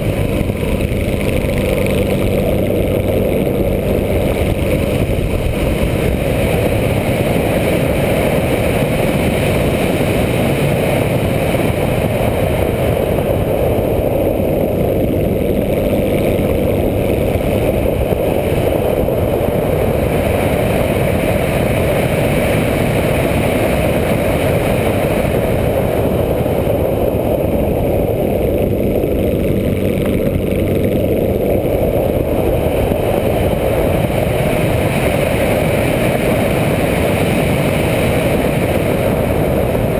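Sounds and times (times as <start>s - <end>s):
heavy wind rush: 0.0s - 39.9s
light aircraft engine drone: 0.0s - 39.9s.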